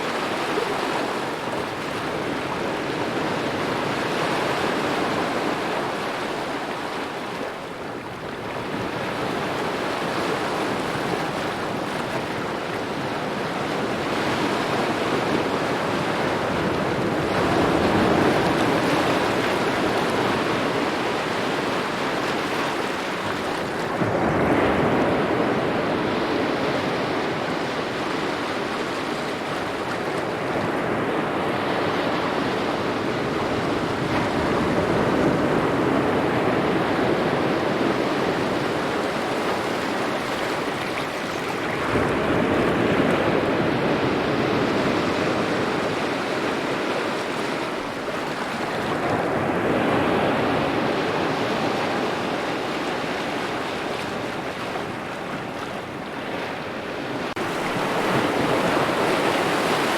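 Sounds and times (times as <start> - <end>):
small waves lapping ashore: 0.0 - 59.9.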